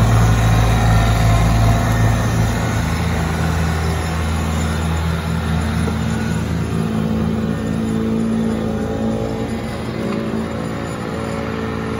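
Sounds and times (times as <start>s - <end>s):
tractor diesel engine under load: 0.0s - 11.9s.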